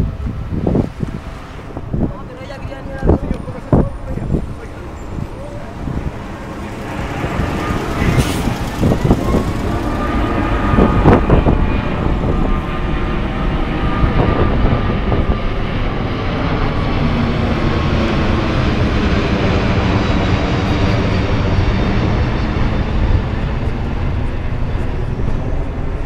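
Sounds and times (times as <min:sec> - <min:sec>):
faint jet whine: 0:00.0 - 0:26.0
jet engines at high power: 0:00.0 - 0:26.0.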